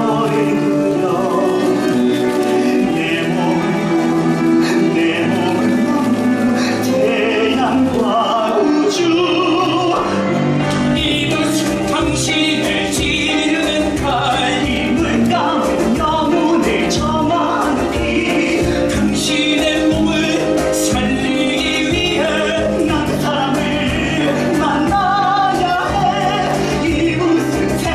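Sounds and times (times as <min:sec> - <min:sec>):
instrumental accompaniment: 0:00.0 - 0:27.9
men singing: 0:00.0 - 0:27.9.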